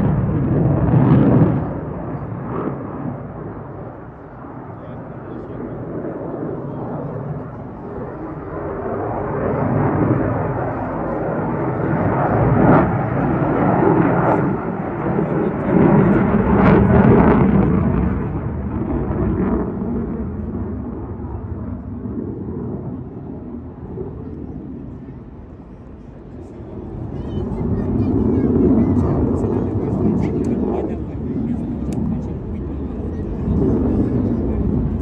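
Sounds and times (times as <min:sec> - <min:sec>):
fighter jet engine rumble: 0:00.0 - 0:35.0.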